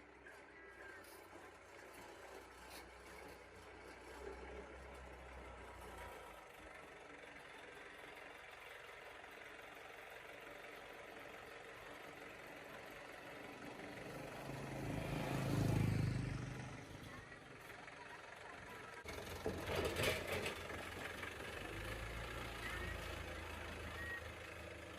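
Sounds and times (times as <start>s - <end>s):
vehicle engine running: 0.0s - 24.9s.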